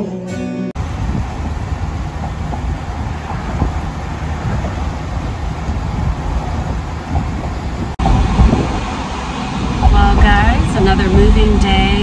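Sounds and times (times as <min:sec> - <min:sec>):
car road and wind noise: 0:00.8 - 0:12.0.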